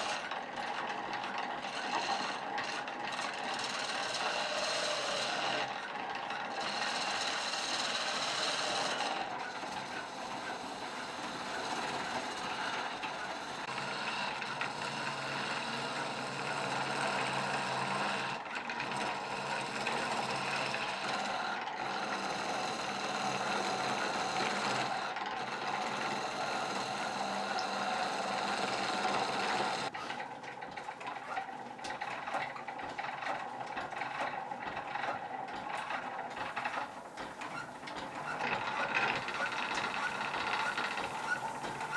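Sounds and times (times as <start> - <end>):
lathe tool scraping wood: 0.0 - 41.9
treadle lathe mechanism clattering: 0.0 - 41.9.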